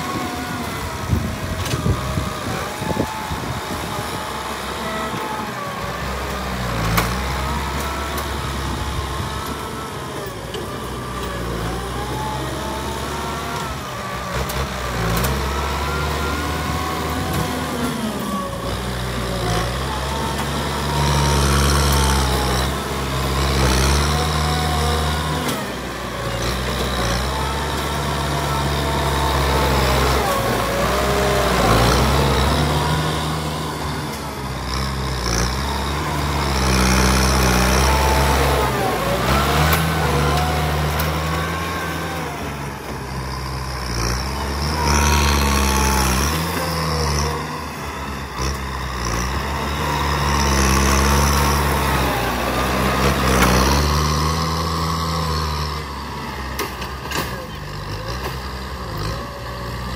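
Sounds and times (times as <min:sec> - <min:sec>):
tractor diesel engine working: 0:00.0 - 0:59.9.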